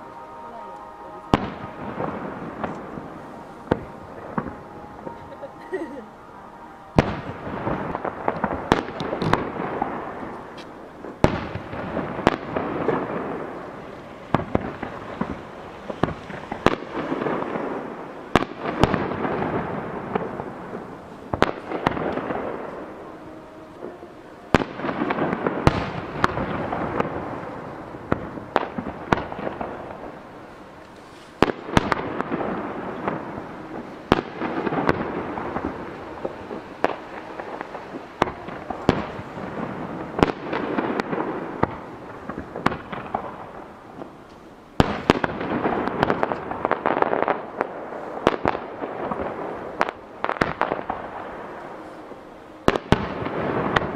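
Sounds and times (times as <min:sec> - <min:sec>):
fireworks bursting with echo: 0:00.0 - 0:53.9.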